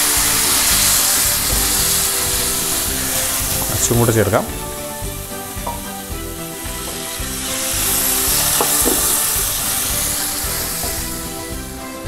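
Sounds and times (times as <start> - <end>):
water pouring into a pan: 0.0 - 11.5
food sizzling in a pan: 0.0 - 11.9.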